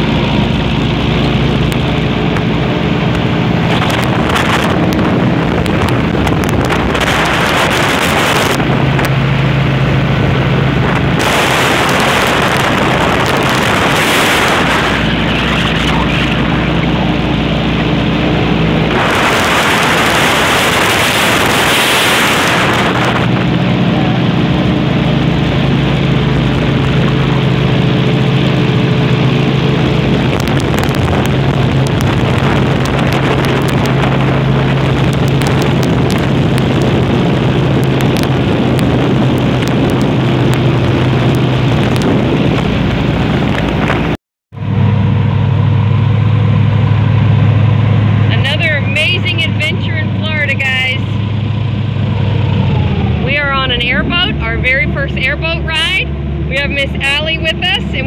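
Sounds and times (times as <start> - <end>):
airboat engine and propeller drone: 0.0 - 58.0
wind buffeting microphone: 0.0 - 58.0.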